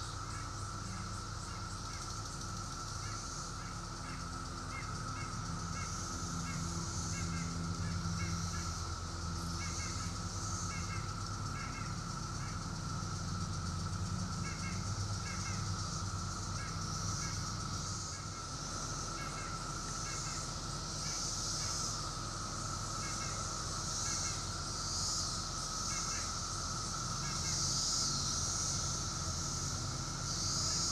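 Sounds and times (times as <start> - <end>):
cicada chorus drone: 0.0 - 30.9.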